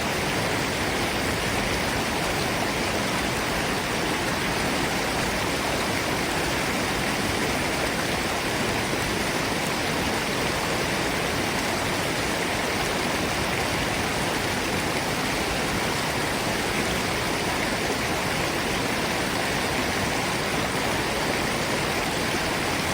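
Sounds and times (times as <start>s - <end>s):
stream and waterfall rushing: 0.0s - 22.9s.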